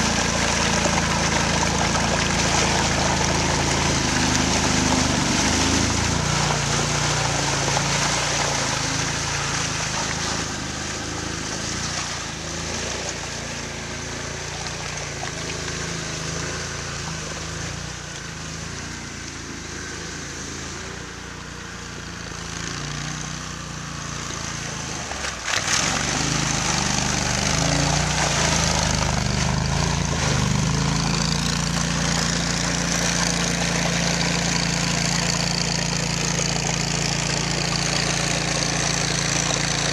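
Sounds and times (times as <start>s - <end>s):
water sloshing: 0.0s - 21.7s, 23.9s - 39.9s
atv engine running: 0.0s - 39.9s.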